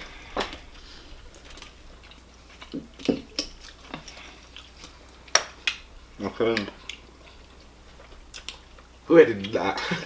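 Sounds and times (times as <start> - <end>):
soft chewing: 0.0 - 10.0.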